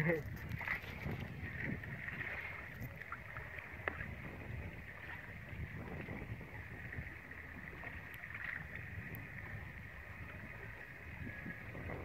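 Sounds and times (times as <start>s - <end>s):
water rumbling around boat: 0.0s - 12.0s
wind noise: 0.0s - 12.0s.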